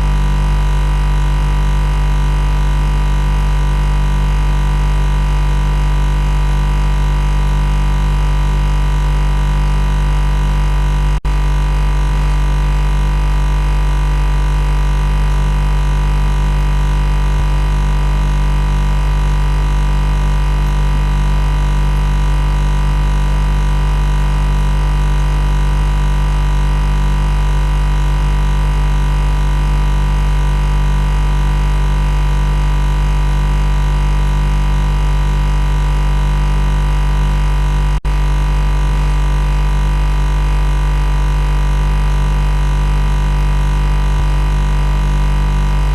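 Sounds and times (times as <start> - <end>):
machine buzzing: 0.0 - 45.9.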